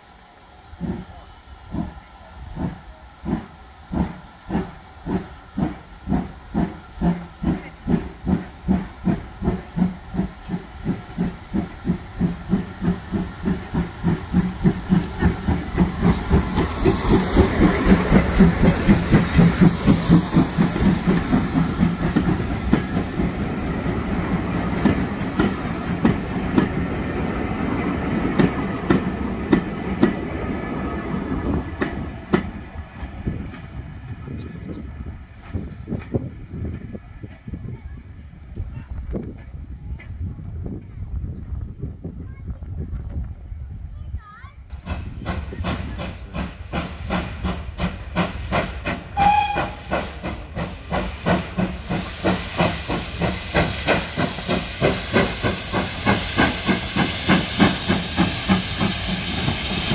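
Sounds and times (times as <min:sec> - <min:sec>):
steam hiss: 0:00.0 - 0:40.2, 0:44.7 - 0:59.9
steam locomotive exhaust beats: 0:00.0 - 0:59.9
train coaches rumbling: 0:00.0 - 0:59.9.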